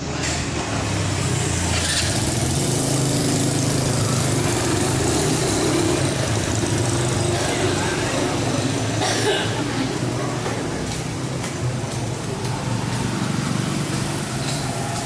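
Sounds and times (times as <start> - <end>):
street traffic noise: 0.0 - 15.0
motorbike engine running: 0.6 - 9.0, 9.6 - 15.0.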